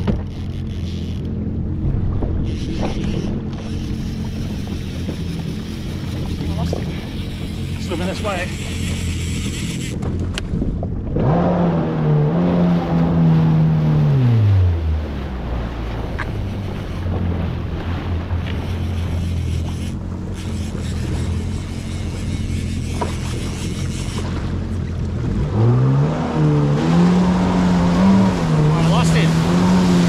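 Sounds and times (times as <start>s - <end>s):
jet ski engine revving and idling: 0.0s - 30.0s.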